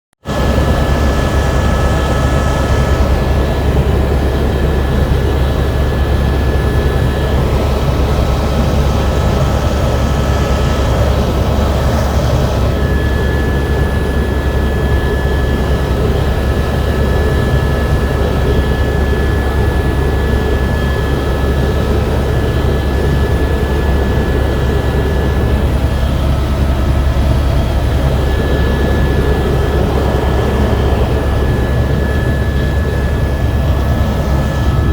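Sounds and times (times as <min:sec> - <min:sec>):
helicopter rotor drone: 0:00.2 - 0:34.9
thin high whine: 0:00.3 - 0:34.9.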